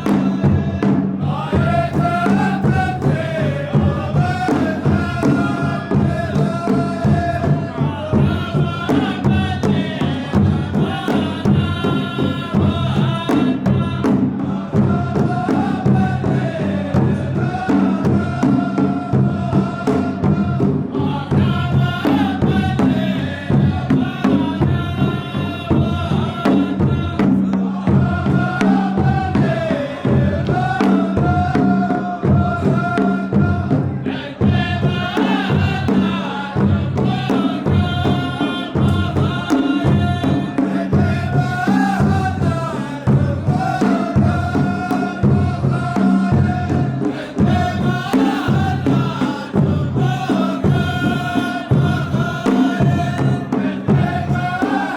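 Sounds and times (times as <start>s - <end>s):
large drums beating: 0.0s - 54.9s
men chanting in unison: 0.0s - 54.9s.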